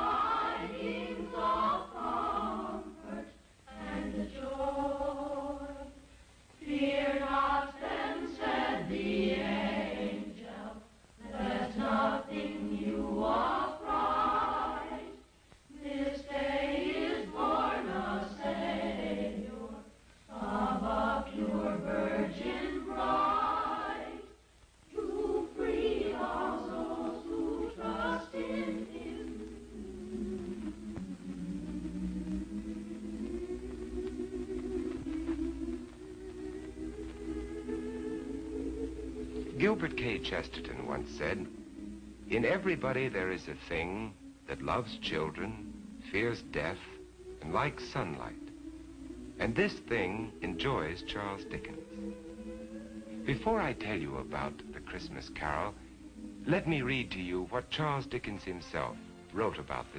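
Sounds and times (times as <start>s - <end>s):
choir singing: 0.0s - 6.0s, 6.6s - 59.9s.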